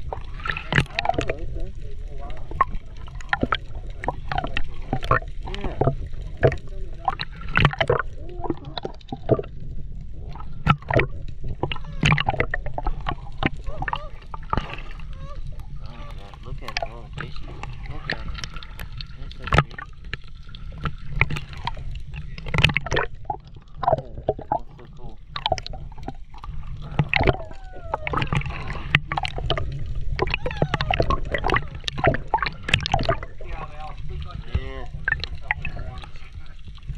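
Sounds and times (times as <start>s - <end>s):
steady low underwater rumble: 0.0s - 36.9s
underwater gurgling and popping: 0.0s - 36.9s.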